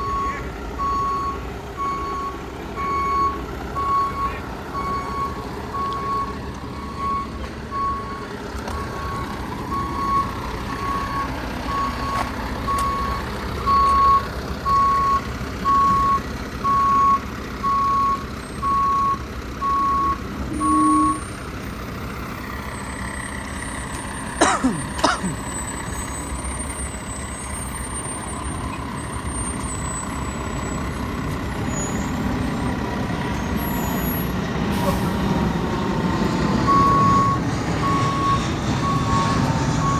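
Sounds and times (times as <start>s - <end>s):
diesel engine running: 0.0s - 39.9s
truck backup alarm beeping: 0.0s - 39.9s.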